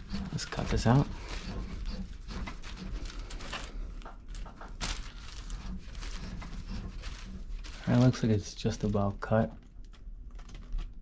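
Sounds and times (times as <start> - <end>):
tube cutter clicking and scraping pipe: 0.0 - 11.0.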